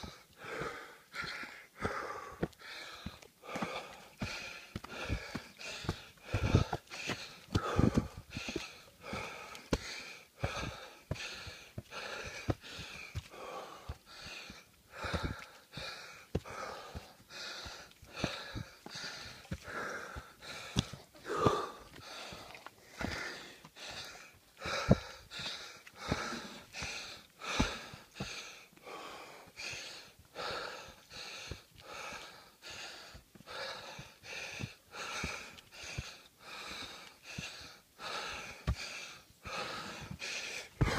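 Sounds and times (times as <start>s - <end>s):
person panting hard: 0.0s - 40.9s
footsteps on dirt: 1.8s - 29.0s, 33.6s - 40.9s.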